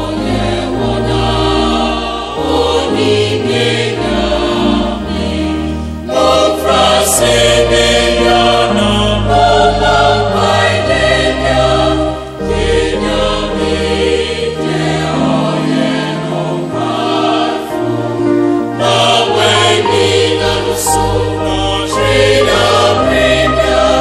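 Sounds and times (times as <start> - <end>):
choir singing: 0.0 - 24.0
organ accompaniment: 0.0 - 24.0.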